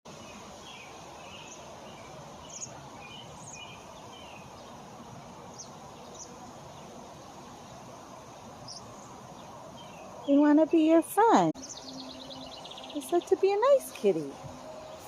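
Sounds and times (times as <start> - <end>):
small birds chirping: 0.1 - 15.0
steady background hiss: 0.1 - 15.0.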